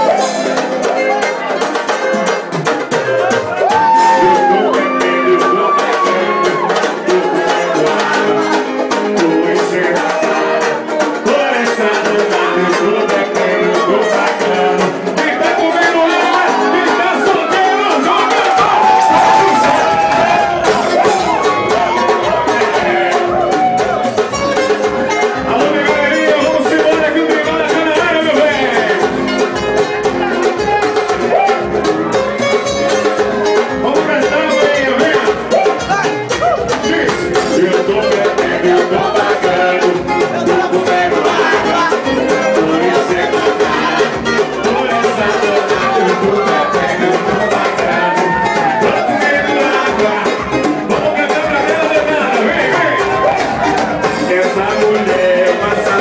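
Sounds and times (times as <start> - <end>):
live band music: 0.0 - 56.0
man singing: 0.0 - 56.0.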